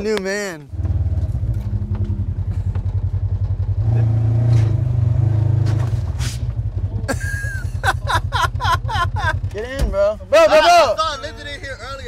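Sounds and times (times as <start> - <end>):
utility vehicle engine running: 0.7 - 12.0.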